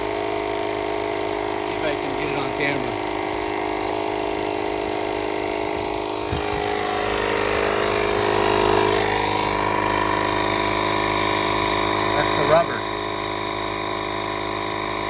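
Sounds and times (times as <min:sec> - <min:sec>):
air pump running: 0:00.0 - 0:15.0.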